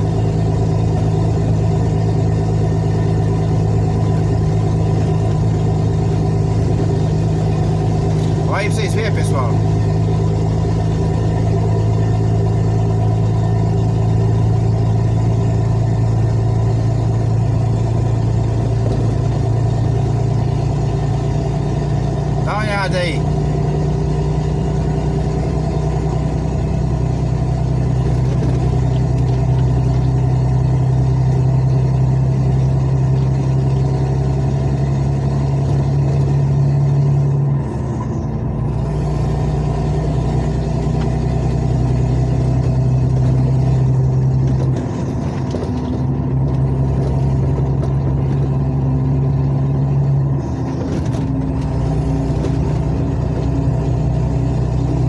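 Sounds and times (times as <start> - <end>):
truck engine humming: 0.0 - 55.0.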